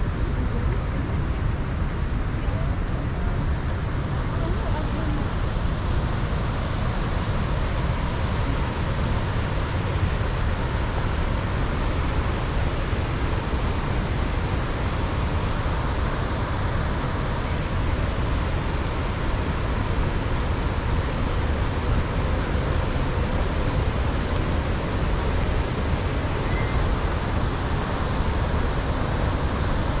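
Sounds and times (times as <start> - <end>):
large waterfall rushing: 0.0 - 30.0.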